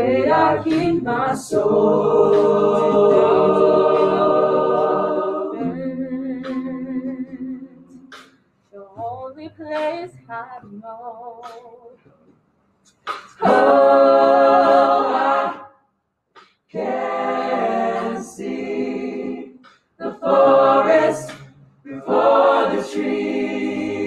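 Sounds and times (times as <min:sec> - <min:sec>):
a cappella group singing: 0:00.0 - 0:12.0, 0:13.1 - 0:15.8, 0:16.7 - 0:24.0.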